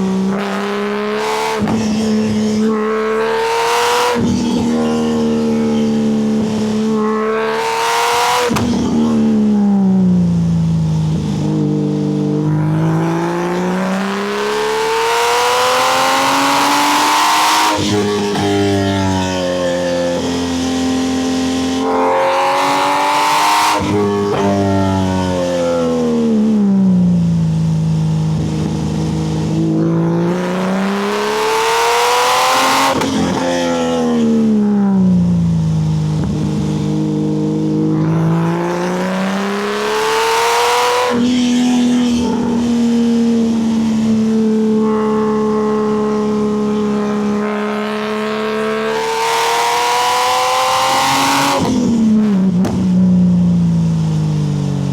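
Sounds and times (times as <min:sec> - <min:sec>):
sports car accelerating hard: 0:00.0 - 0:54.9.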